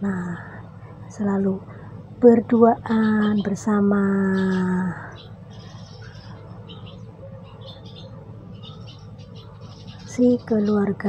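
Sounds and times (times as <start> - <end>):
faint bird chirps: 0.0 - 11.0
low background hum: 0.0 - 11.0.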